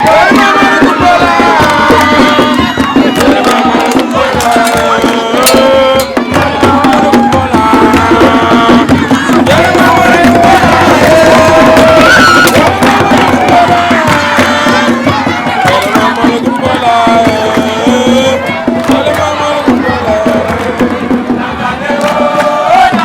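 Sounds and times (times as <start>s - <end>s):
fast hand-drum percussion: 0.0s - 23.0s.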